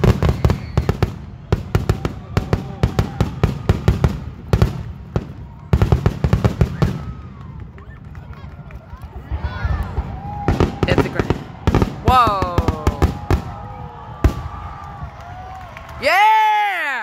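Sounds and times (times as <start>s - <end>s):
fireworks bangs: 0.0s - 8.4s, 9.0s - 15.2s.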